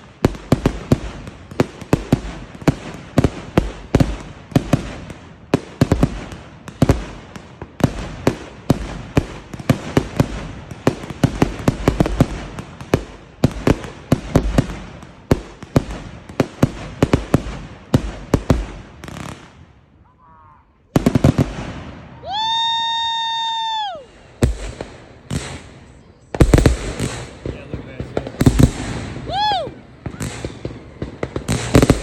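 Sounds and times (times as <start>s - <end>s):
fireworks bangs: 0.0s - 19.8s, 20.9s - 32.0s
fireworks crackling: 0.0s - 19.8s, 20.8s - 32.0s.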